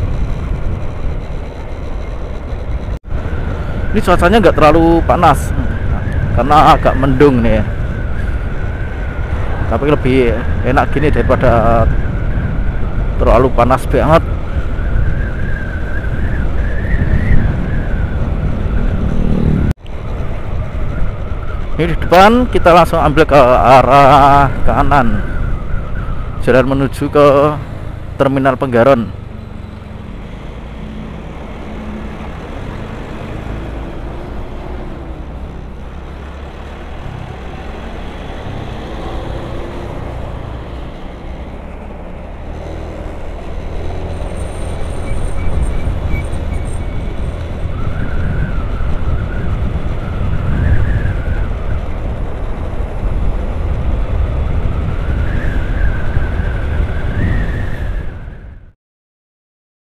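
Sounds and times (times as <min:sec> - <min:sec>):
wind rushing over microphone: 0:00.0 - 0:58.8.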